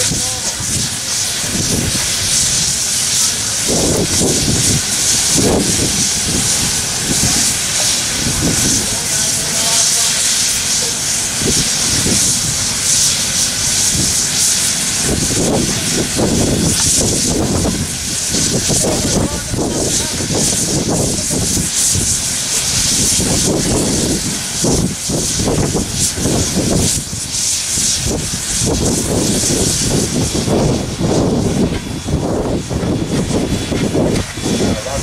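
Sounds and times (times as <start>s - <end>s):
low rumbles: 0.0s - 35.0s
steam locomotive hissing steam: 0.0s - 35.0s.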